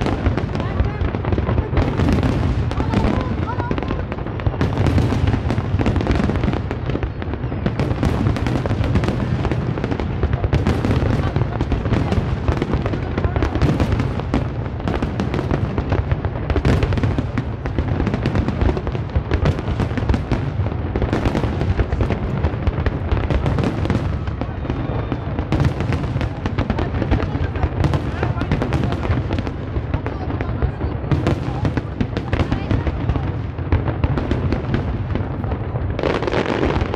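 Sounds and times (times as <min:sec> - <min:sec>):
fireworks bursting: 0:00.0 - 0:36.9
fireworks crackle: 0:00.0 - 0:36.9.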